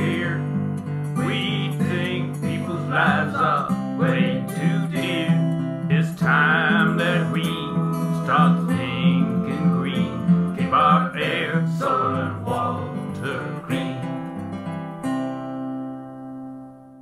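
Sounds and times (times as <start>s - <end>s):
person singing: 0.0s - 14.4s
acoustic guitar strumming: 0.0s - 17.0s.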